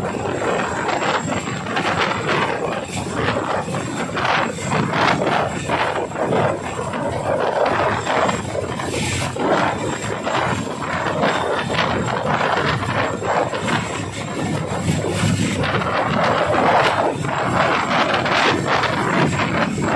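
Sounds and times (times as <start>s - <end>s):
helicopter hovering: 0.0s - 19.9s.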